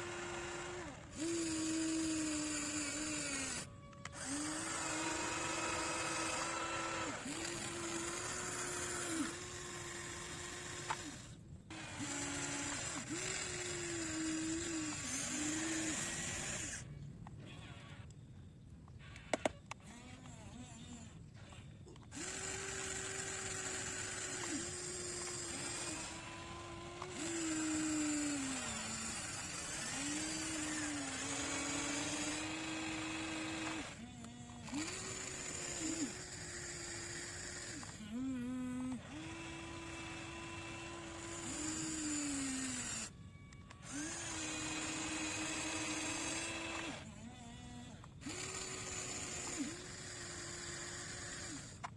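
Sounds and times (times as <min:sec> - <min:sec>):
electric motor and hydraulic pump whining: 0:00.0 - 0:51.9.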